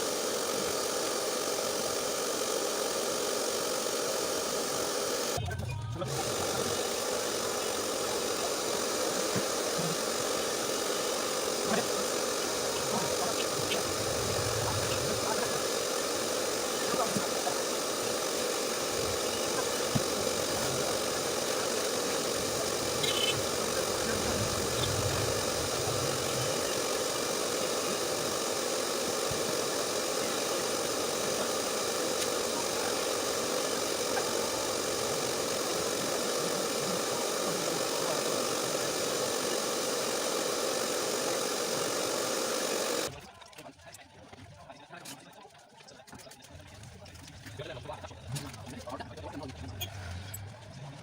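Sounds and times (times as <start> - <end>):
machine hum with hiss: 0.0 - 5.4, 6.0 - 43.2.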